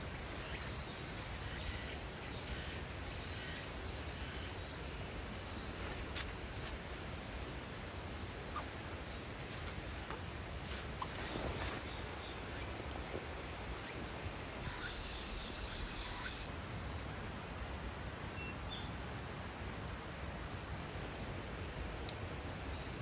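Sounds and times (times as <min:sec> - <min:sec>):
faint outdoor hiss: 0:00.0 - 0:23.0
insects chirping: 0:00.0 - 0:23.0.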